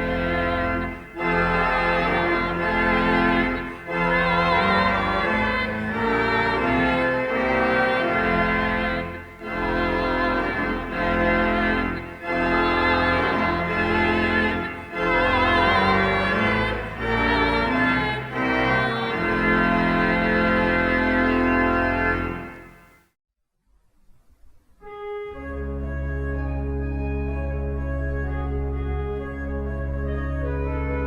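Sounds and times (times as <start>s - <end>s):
church organ playing chords: 0.0s - 23.0s, 24.9s - 31.0s.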